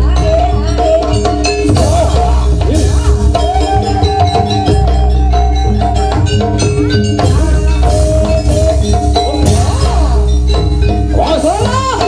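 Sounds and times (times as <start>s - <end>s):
drumming and percussion: 0.0s - 12.0s.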